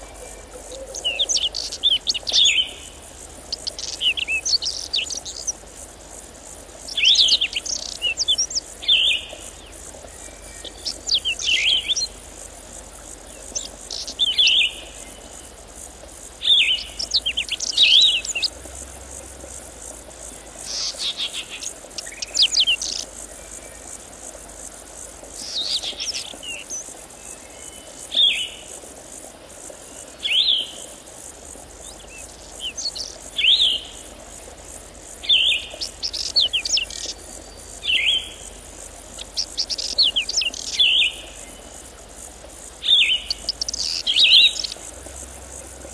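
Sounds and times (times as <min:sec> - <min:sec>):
high buzz of insects: 0:00.0 - 0:45.9.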